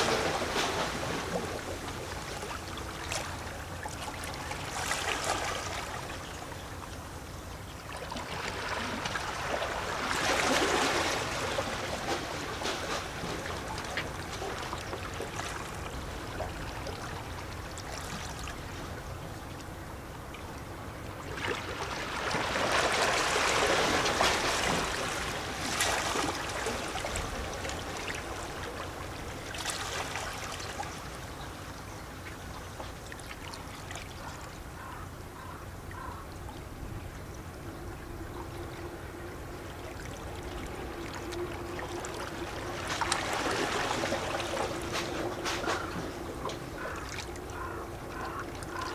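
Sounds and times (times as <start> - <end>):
waves lapping against rocks: 0.0 - 6.2, 7.9 - 19.0, 21.2 - 36.2, 38.4 - 48.9
gurgling and trickling water: 0.0 - 48.9.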